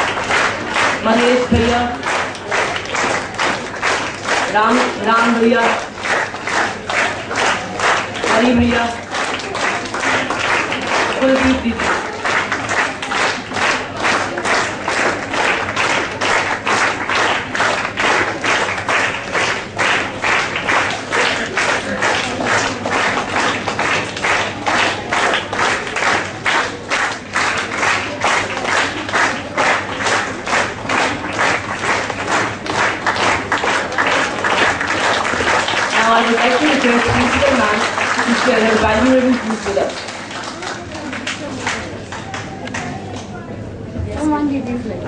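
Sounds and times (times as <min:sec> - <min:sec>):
audience clapping in unison: 0:00.0 - 0:43.4.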